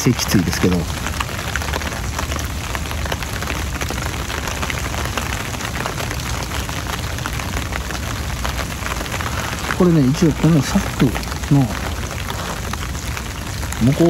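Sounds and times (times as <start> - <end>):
rain pattering on umbrella: 0.0 - 14.0.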